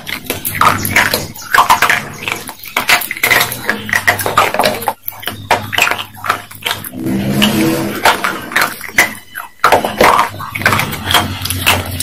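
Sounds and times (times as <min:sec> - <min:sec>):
crisp crunching and chewing: 0:00.0 - 0:12.0.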